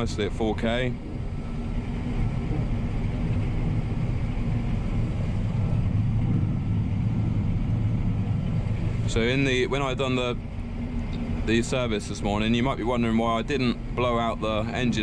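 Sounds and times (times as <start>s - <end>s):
combine harvester engine rumble: 0.0s - 15.0s.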